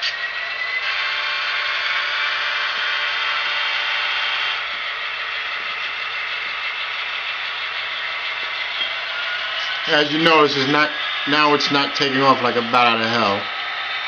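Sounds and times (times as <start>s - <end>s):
diesel engine sound through small speaker: 0.0s - 14.0s.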